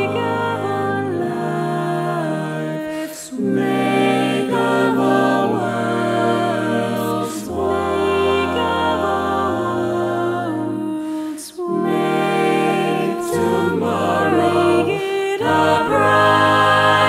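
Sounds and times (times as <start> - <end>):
a cappella group singing harmony: 0.0 - 17.0.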